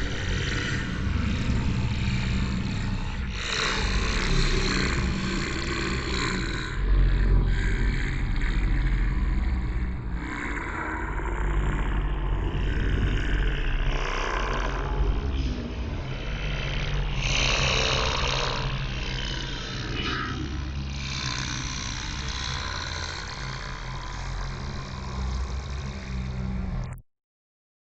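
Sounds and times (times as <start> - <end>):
low rumbling drone hum: 0.0 - 27.0.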